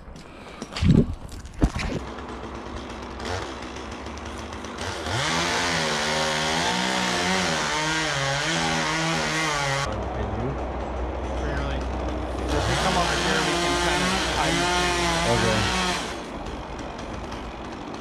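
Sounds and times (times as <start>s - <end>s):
chainsaw cutting wood: 1.6s - 18.0s.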